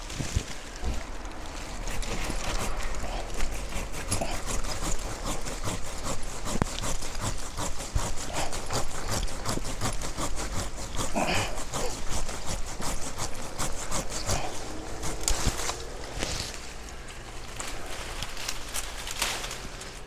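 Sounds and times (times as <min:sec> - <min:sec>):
hand saw cutting branch: 0:00.8 - 0:20.0.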